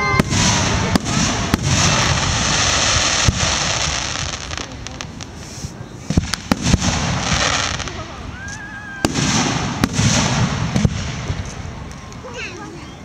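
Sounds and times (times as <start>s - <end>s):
firework shells bursting: 0.0s - 12.2s
fireworks crackling hiss: 0.0s - 13.0s.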